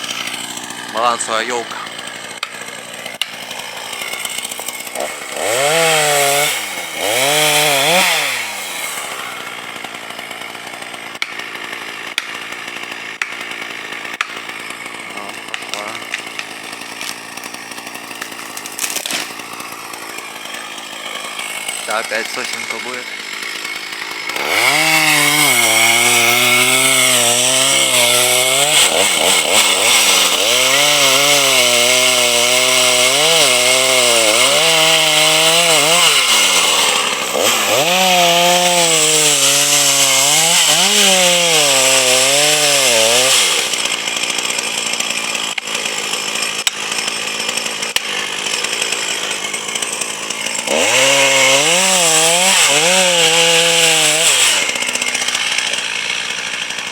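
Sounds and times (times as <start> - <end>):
motor cutting timber: 0.0 - 56.9.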